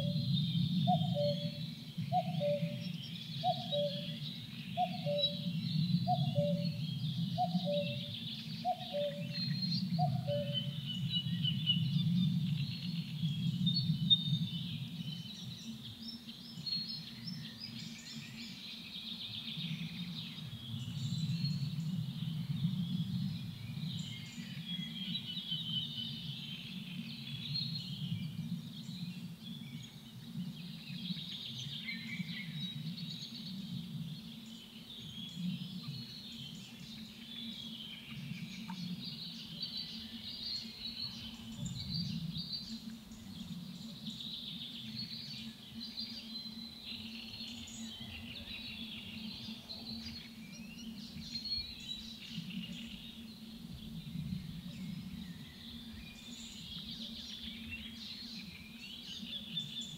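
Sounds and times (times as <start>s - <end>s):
many birds calling and singing: 0.0s - 59.9s.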